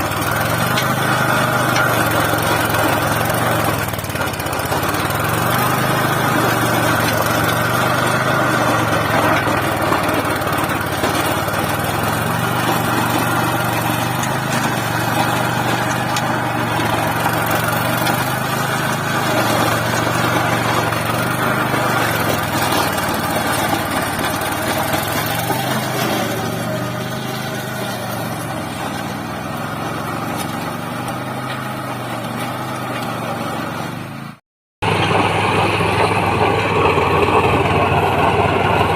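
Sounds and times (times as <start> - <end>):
small tractor engine running: 0.0 - 38.9.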